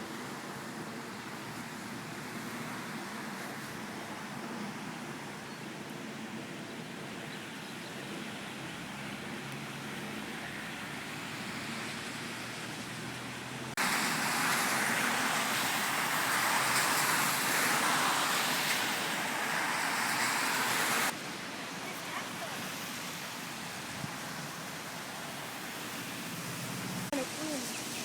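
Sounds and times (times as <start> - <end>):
floodwater rushing: 0.0 - 7.2, 8.0 - 28.0.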